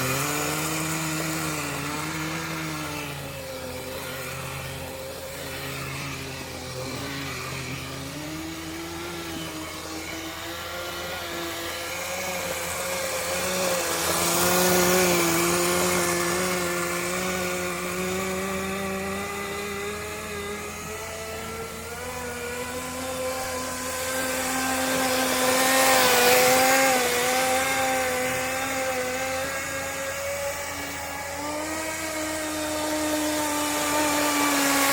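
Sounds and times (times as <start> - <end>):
small nitro engine running: 0.0 - 34.9.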